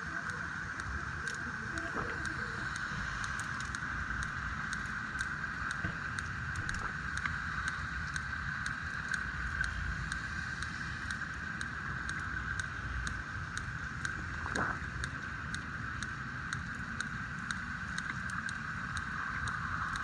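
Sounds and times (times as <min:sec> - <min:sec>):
sharp little clicks: 0:00.0 - 0:20.0.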